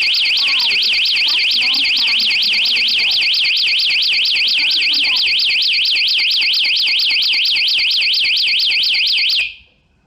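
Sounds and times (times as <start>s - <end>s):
warbling electronic alarm: 0.0s - 9.6s.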